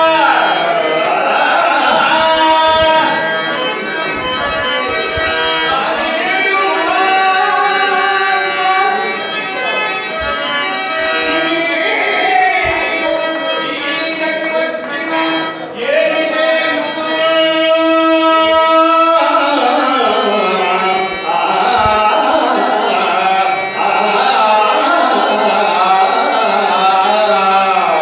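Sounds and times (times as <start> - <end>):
man singing slow melody: 0.0 - 3.3, 5.7 - 9.0, 11.1 - 28.0
harmonium: 0.0 - 28.0.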